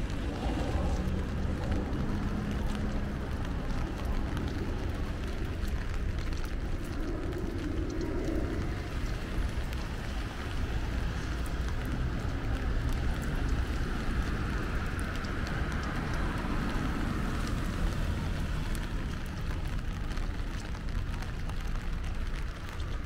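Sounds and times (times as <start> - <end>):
low city rumble: 0.0 - 23.0
steady rain falling: 0.0 - 23.0.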